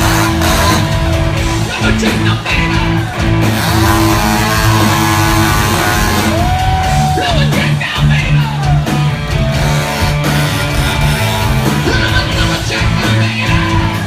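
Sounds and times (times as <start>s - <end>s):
electric guitar bending notes: 0.0s - 14.0s
live rock band playing: 0.0s - 14.0s.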